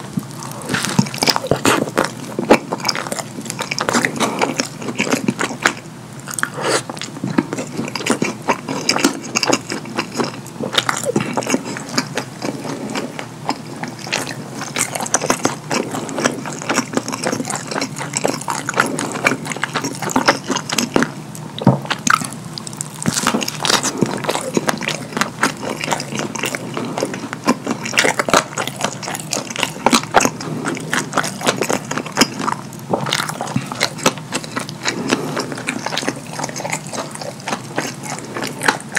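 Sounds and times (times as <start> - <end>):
wet open-mouth chewing: 0.0 - 38.9.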